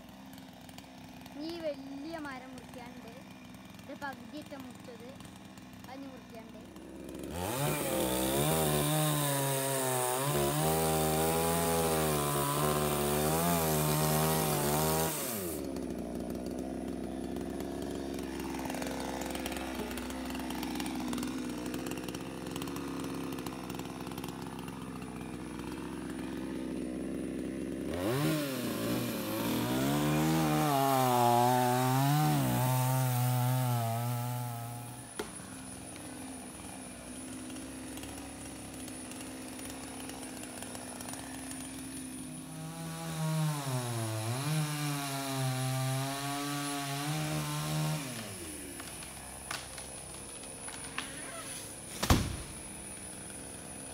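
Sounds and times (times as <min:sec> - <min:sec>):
chainsaw cutting tree trunk: 0:00.0 - 0:53.9
chainsaw idling: 0:00.0 - 0:53.9.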